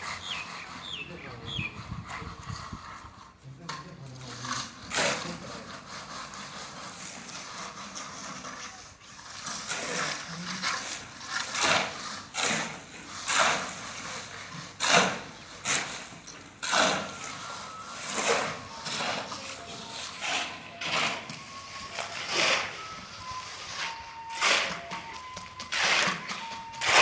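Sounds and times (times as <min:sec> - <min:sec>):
scraping on hard surface: 0:00.0 - 0:27.0.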